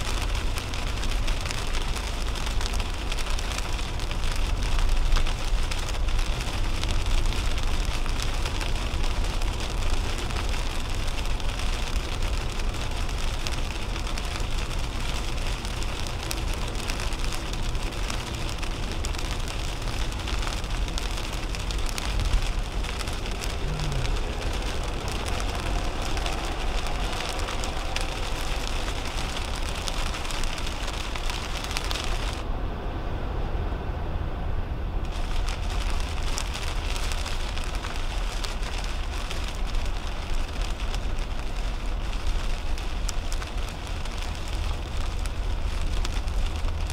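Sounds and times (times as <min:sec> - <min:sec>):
heavy rain on car roof: 0:00.0 - 0:32.5, 0:35.0 - 0:46.9
tyres rumbling on wet road: 0:00.0 - 0:46.9.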